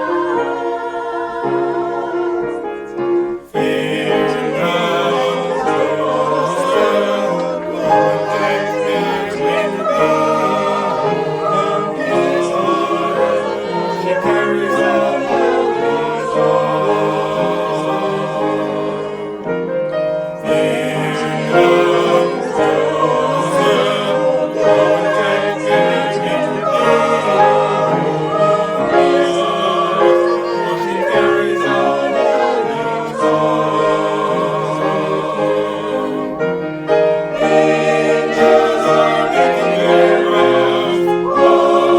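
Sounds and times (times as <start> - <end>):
choir singing in harmony: 0.0 - 41.9.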